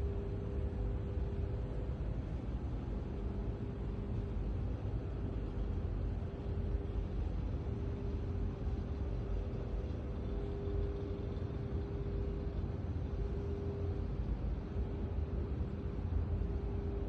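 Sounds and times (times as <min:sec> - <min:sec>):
steady hum: 0:00.0 - 0:17.0
steady low rumble: 0:00.0 - 0:17.0.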